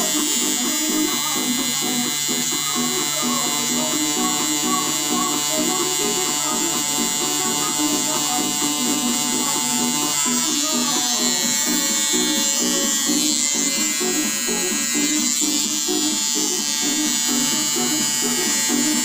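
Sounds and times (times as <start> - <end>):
background music: 0.0 - 19.0
tattoo machine buzzing: 0.0 - 19.0.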